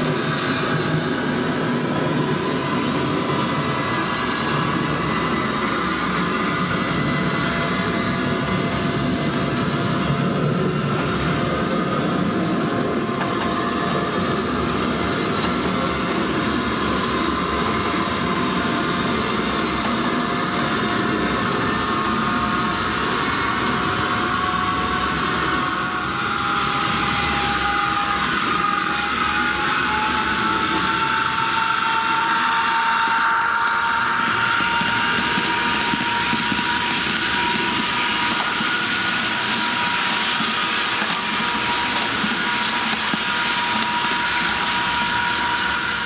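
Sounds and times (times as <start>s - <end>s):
model locomotive running noise: 0.0s - 46.0s.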